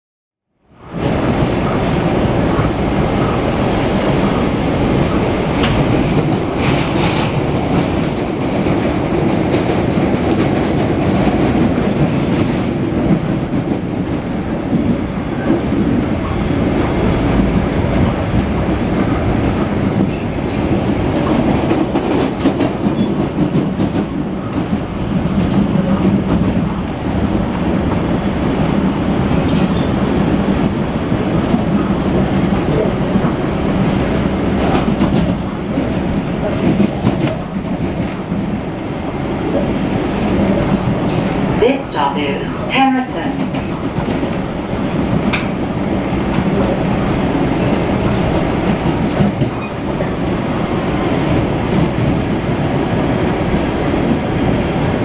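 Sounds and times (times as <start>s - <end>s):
train wheels rumbling on rails: 0.7s - 55.0s.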